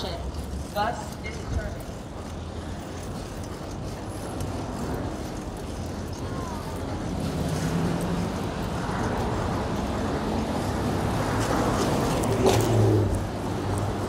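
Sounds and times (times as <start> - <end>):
vehicles passing on street: 0.0 - 14.0.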